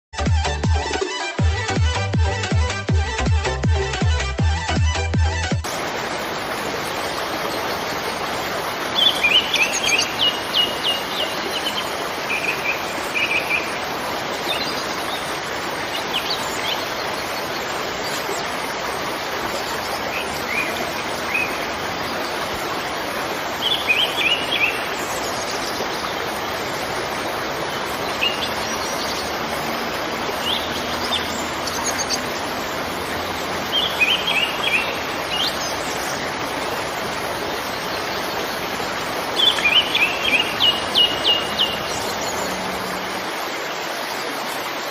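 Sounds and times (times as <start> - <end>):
waterfall rushing: 5.6 - 44.9
small birds chirping: 6.5 - 43.3.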